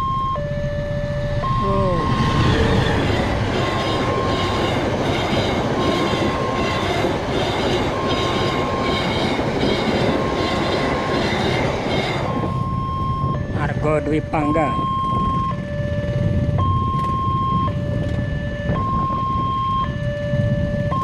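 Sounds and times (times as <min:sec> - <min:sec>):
level crossing warning alarm: 0:00.0 - 0:21.0
train wheels rumbling on rails: 0:01.4 - 0:13.8, 0:14.6 - 0:21.0.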